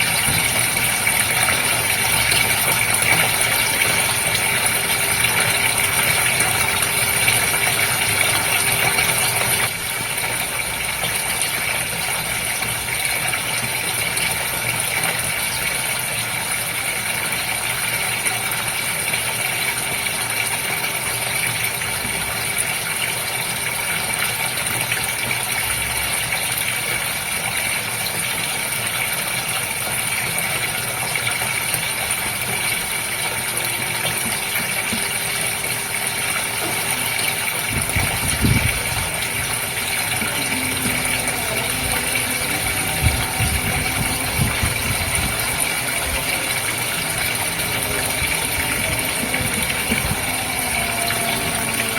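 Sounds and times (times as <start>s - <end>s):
filter pump hum: 0.0s - 51.9s
running and splashing water: 0.0s - 51.9s.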